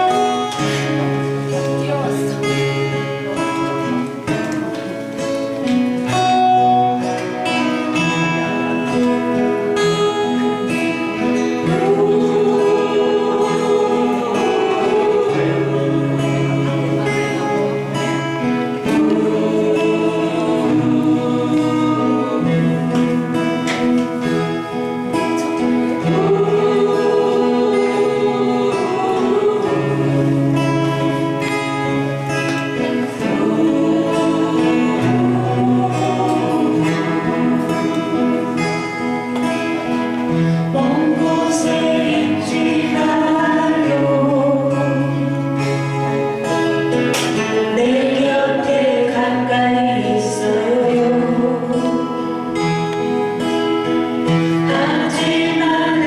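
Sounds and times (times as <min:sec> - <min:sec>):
acoustic guitar: 0:00.0 - 0:56.0
voices singing a slow song: 0:00.0 - 0:56.0.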